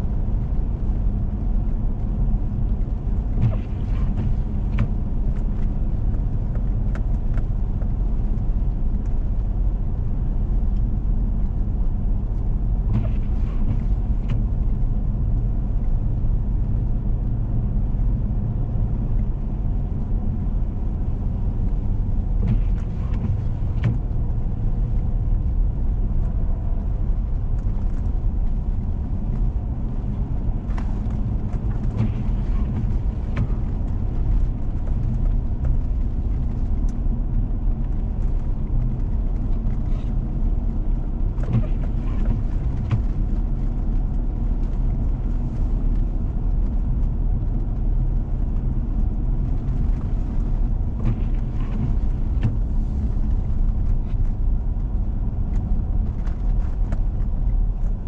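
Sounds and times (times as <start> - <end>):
vehicle engine and tyres rumbling: 0.0 - 58.0.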